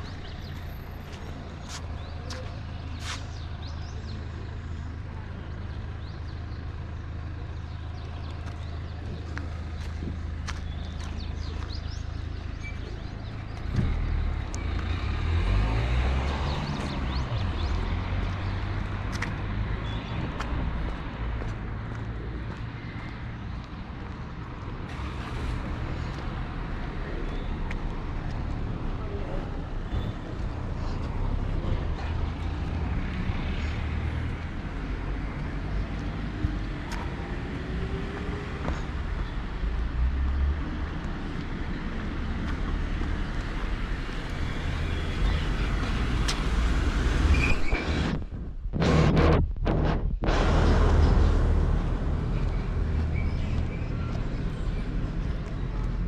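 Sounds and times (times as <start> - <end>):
voices of passers-by: 0.0 - 49.4, 50.3 - 56.0
road traffic rumble: 0.0 - 56.0
vehicle engine hum: 0.0 - 56.0.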